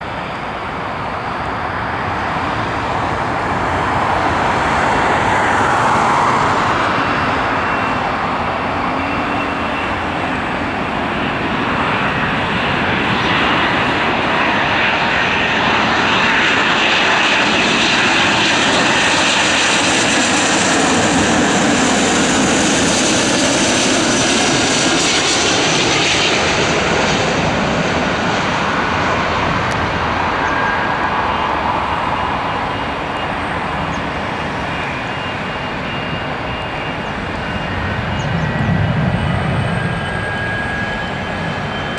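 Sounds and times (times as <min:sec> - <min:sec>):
jet engines roaring with high whine: 0:00.0 - 0:41.9.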